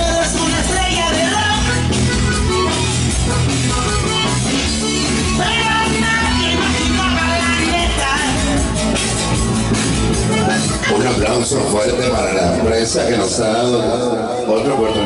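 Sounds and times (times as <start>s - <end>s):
rock song over sound system: 0.0s - 15.0s.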